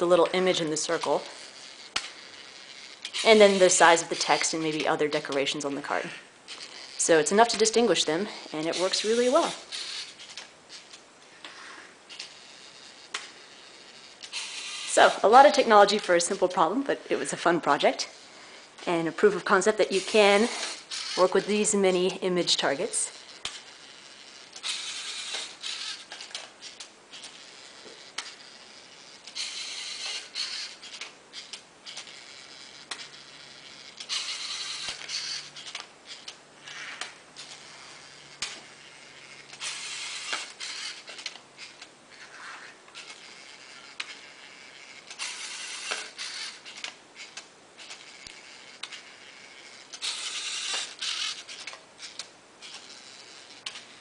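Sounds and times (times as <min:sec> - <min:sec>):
servo motors whirring: 0:00.0 - 0:54.0.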